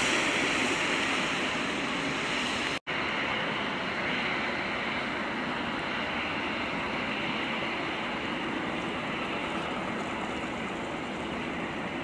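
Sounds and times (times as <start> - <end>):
busy street traffic: 1.6 - 12.0.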